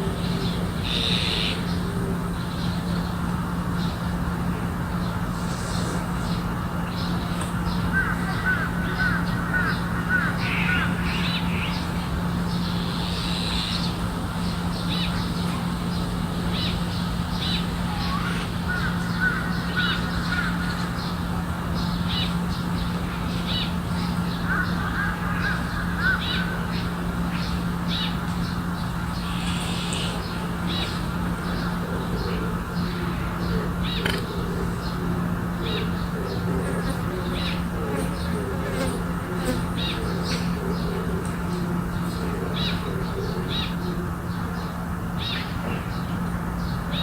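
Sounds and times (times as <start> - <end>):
crows chattering calls: 0.0 - 46.2
steady low hum: 0.0 - 47.0.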